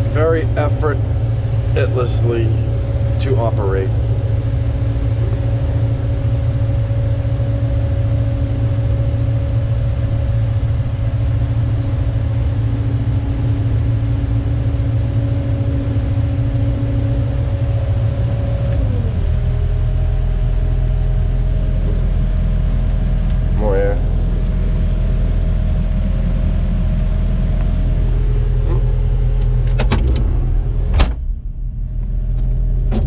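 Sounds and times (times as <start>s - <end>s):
excavator diesel engine whining: 0.0s - 33.0s.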